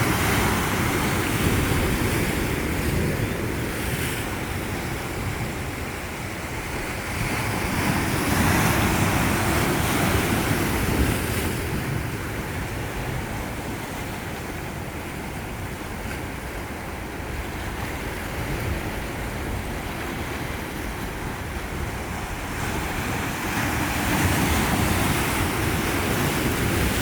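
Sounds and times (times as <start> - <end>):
sea waves washing onto shore: 0.0 - 27.0
wind buffeting microphone: 0.0 - 27.0.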